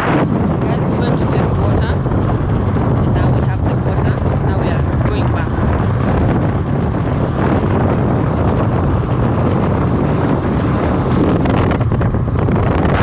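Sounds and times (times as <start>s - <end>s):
vehicle road and engine rumble: 0.0s - 13.0s
wind buffeting microphone: 0.0s - 13.0s.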